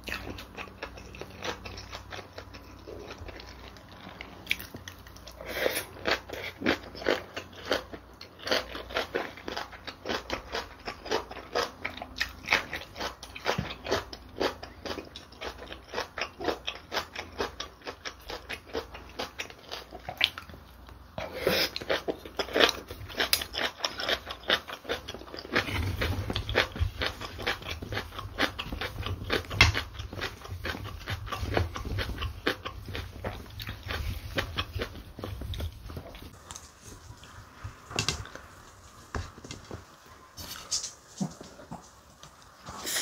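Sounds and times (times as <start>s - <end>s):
wet chewing and crunching: 0.0s - 37.2s.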